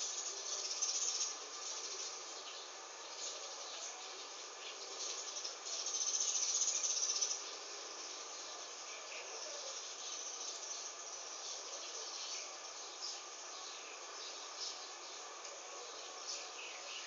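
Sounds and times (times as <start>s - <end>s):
rattling insect trill: 0.0s - 15.2s
steady hiss: 0.0s - 17.0s.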